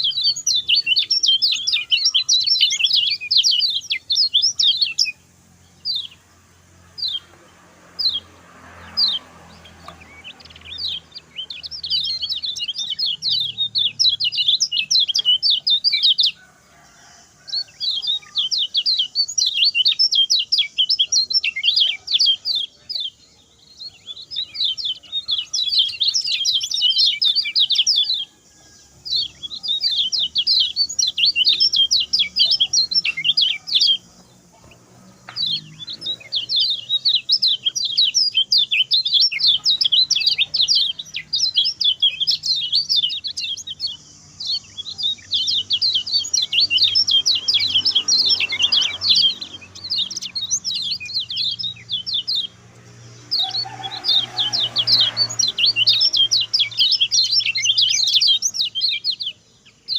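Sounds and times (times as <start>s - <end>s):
bird singing chattering song: 0.0s - 59.9s.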